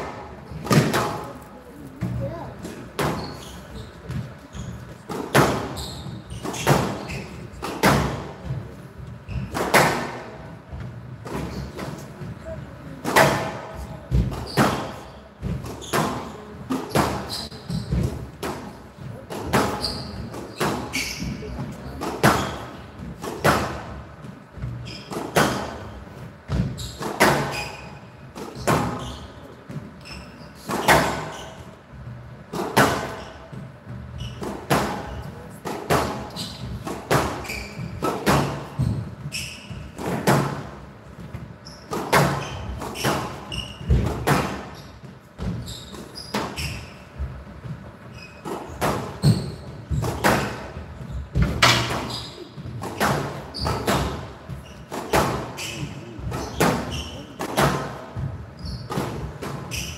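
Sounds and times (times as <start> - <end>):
racket hitting squash ball: 0.0 - 1.4, 2.0 - 12.4, 13.0 - 31.8, 32.5 - 59.9.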